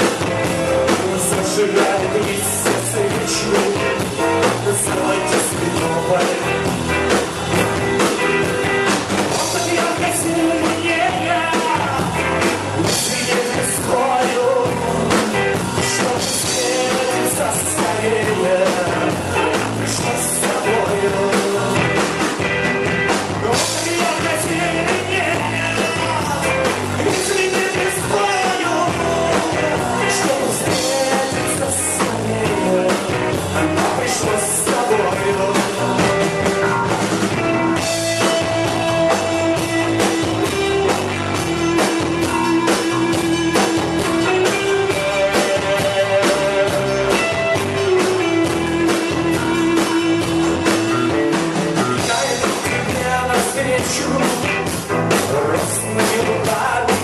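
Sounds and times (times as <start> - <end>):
drum kit: 0.0 - 57.0
guitar: 0.0 - 57.0
rock band playing: 0.0 - 57.0.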